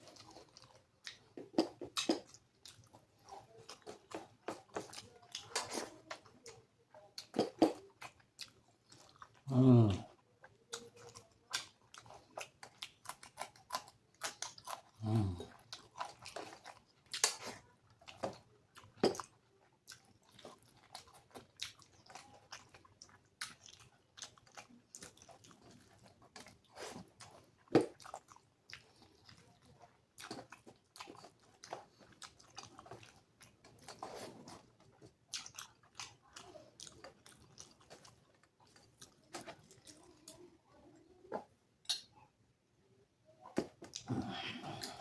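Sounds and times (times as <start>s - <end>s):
person chewing food: 0.0s - 42.3s, 43.5s - 45.0s.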